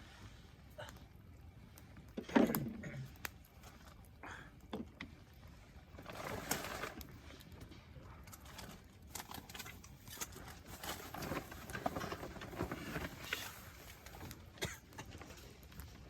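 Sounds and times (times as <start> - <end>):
campfire crackling and popping: 0.5 - 16.0.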